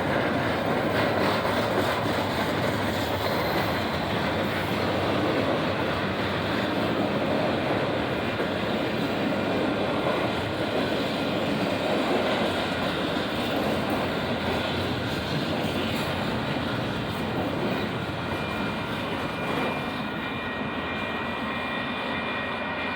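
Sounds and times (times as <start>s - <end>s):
train wheels roaring on rails: 0.0s - 22.9s.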